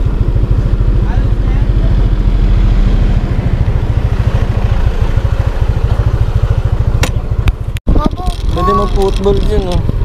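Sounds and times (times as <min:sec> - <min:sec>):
motor scooter engine running: 0:00.0 - 0:10.0.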